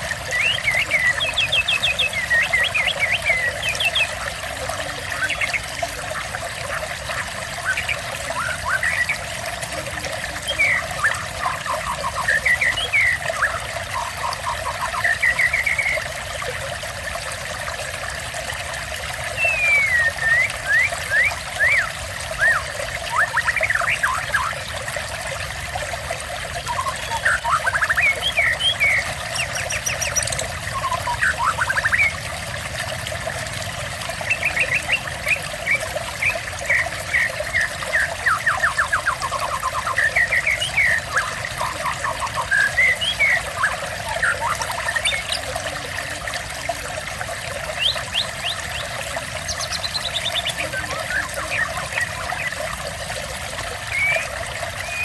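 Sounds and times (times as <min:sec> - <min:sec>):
songbird singing: 0:00.0 - 0:16.0, 0:19.4 - 0:24.6, 0:26.6 - 0:32.2, 0:34.2 - 0:46.2, 0:47.7 - 0:52.7, 0:53.7 - 0:55.0
water trickling: 0:00.0 - 0:55.0.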